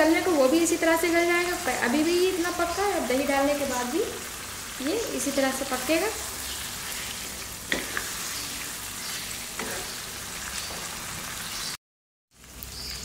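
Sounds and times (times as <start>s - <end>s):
meat frying in oil: 0.0s - 13.0s.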